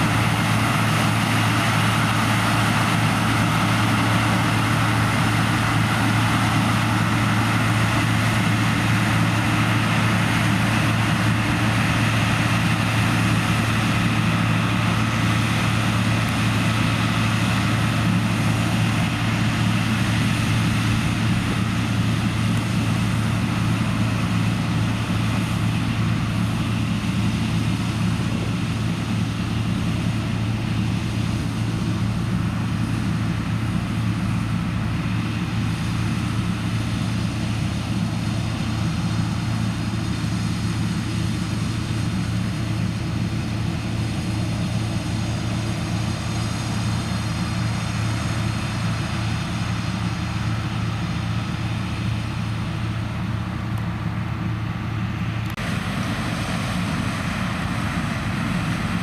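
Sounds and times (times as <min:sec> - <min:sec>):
diesel engine droning under load: 0:00.0 - 0:59.0.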